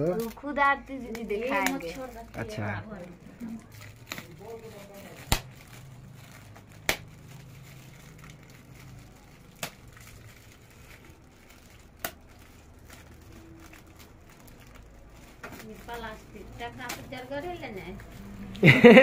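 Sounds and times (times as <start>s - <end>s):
gift wrapping crinkling: 0.0s - 19.0s
sharp crackles of wrapping: 0.0s - 19.0s.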